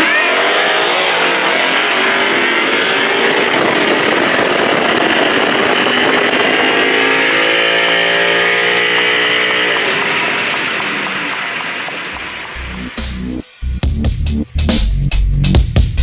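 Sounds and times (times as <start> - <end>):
car engine at full throttle: 0.0 - 13.5.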